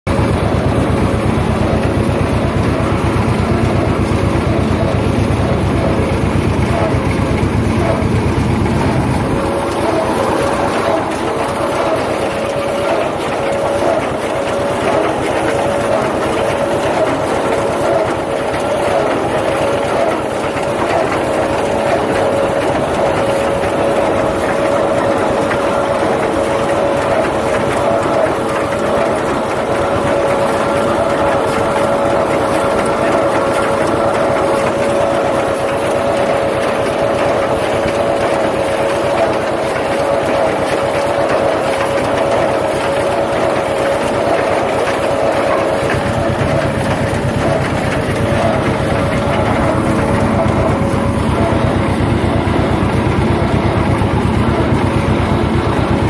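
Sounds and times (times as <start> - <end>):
steady whine: 0.1 - 35.9, 44.2 - 56.0
hay baler clattering: 0.1 - 56.0
tractor engine rumble: 0.1 - 56.0.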